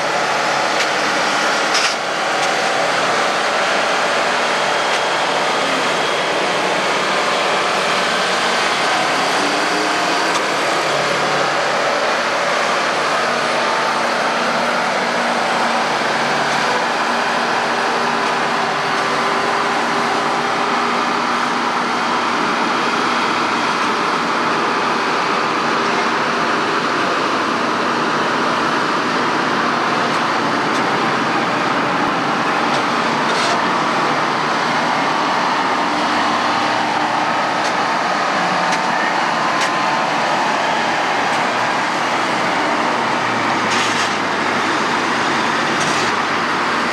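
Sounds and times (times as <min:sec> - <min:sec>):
heavy machinery engine running: 0:00.0 - 0:46.9.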